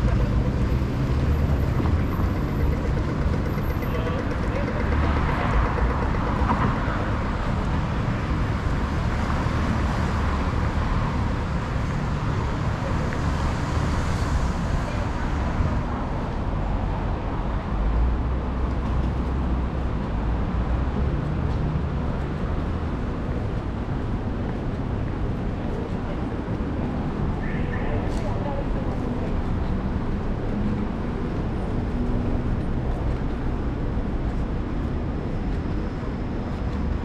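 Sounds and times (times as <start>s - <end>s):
road traffic noise: 0.0s - 37.0s
rumble of passing vehicles: 0.0s - 37.0s.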